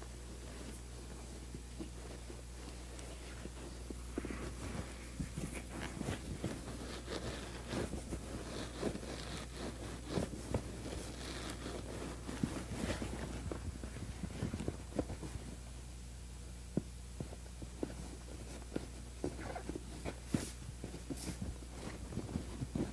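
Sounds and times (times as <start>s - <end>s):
leather rustling and scuffing: 0.0s - 15.8s, 17.2s - 22.9s
steady low hum: 0.0s - 22.9s.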